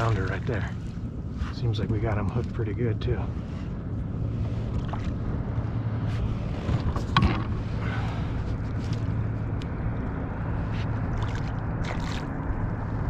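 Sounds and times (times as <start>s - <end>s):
steady low hum: 0.0s - 13.0s
water around kayak: 0.0s - 13.0s.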